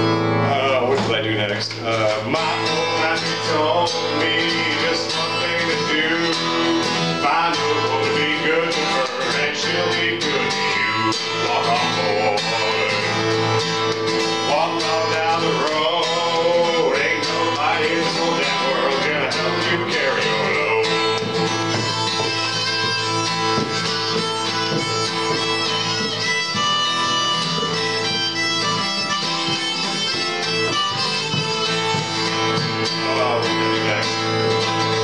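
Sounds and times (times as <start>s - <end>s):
acoustic guitar strumming: 0.0s - 35.0s
man singing: 0.3s - 22.9s, 29.6s - 35.0s.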